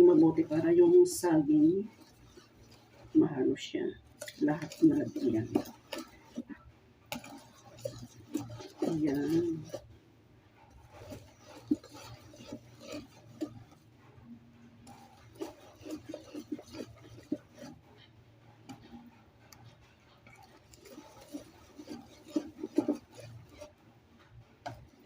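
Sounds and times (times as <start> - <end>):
utensil stirring batter in bowl: 0.0 - 25.0.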